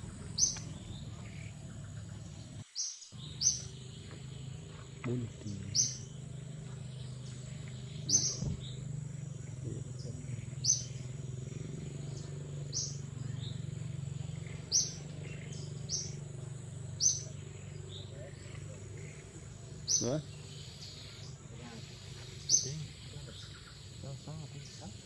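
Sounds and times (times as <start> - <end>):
birds chirping: 0.0 - 25.0
low steady hum: 0.0 - 25.0.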